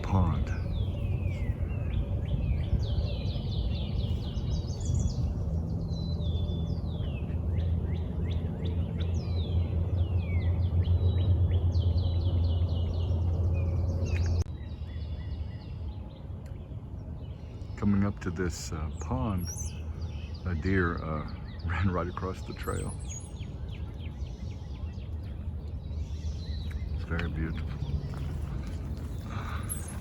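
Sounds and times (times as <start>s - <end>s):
songbirds singing: 0.0s - 30.0s
steady low rumble: 0.0s - 30.0s.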